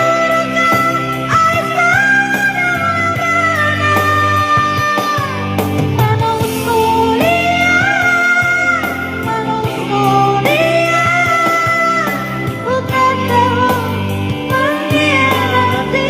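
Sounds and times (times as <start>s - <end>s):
song with guitar and bass: 0.0s - 16.0s.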